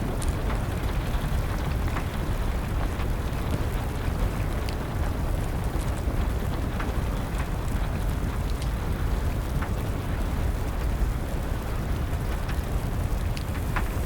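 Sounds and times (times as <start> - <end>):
rain: 0.0 - 14.0
wood fire crackling: 0.0 - 14.0.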